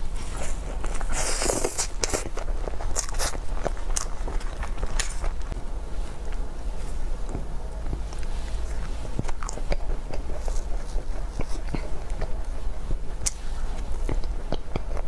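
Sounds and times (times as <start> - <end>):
crackling rustle: 0.0 - 14.4
chewing pastry: 0.0 - 15.0.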